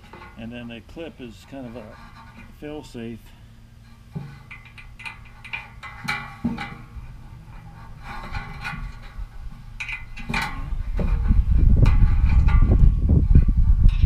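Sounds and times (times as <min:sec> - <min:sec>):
metal hitch parts clinking: 0:00.0 - 0:14.0.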